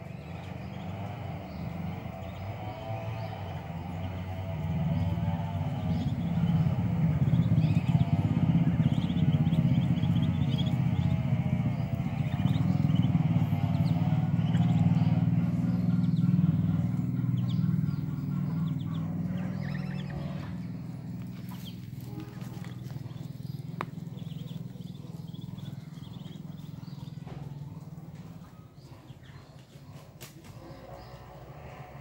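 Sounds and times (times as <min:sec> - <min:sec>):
ducklings peeping: 0:00.0 - 0:32.0
loud low hum: 0:00.0 - 0:32.0.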